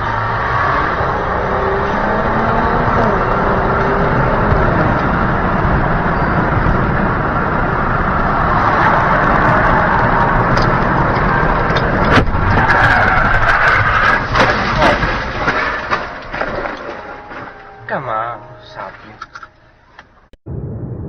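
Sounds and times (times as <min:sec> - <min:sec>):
car engine and tyre rumble: 0:00.0 - 0:20.9.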